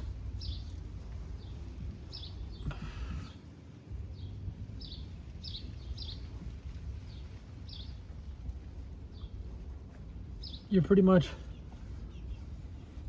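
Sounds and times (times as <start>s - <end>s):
small bird chirping: 0.0s - 3.4s, 4.1s - 13.0s
low outdoor rumble: 0.0s - 13.0s.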